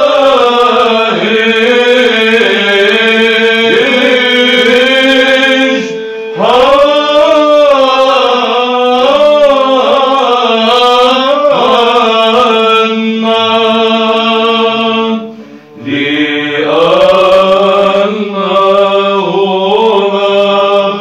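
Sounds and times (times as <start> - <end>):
monks chanting over drone: 0.0 - 21.0.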